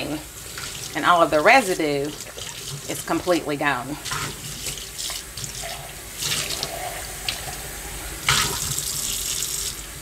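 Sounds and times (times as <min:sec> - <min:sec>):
faucet running into metal sink: 0:00.0 - 0:03.4, 0:04.0 - 0:09.9
mug rinsed under water: 0:00.0 - 0:09.8.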